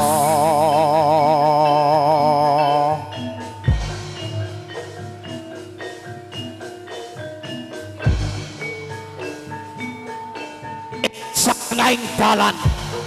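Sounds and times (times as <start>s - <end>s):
metallophones playing struck notes: 0.0s - 13.0s.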